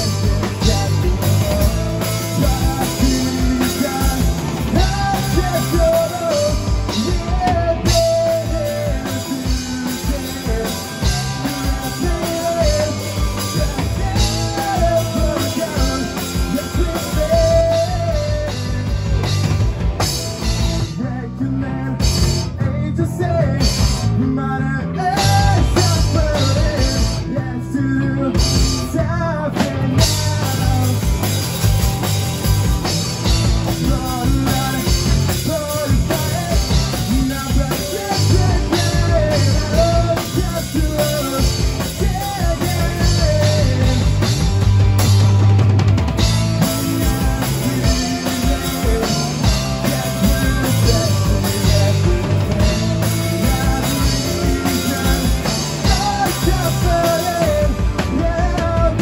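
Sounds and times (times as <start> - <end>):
man singing: 0.0 - 31.8, 32.6 - 44.7, 46.2 - 59.0
live rock band playing: 0.0 - 59.0.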